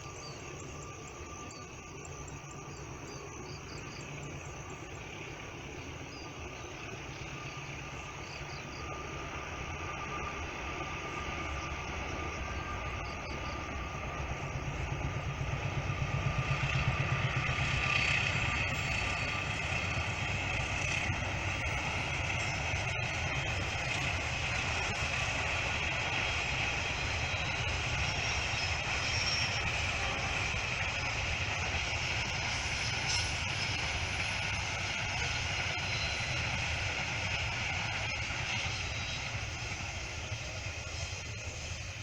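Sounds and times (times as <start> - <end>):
diesel locomotive engine rumbling: 0.0 - 42.0
faint insect chirps: 0.0 - 42.0.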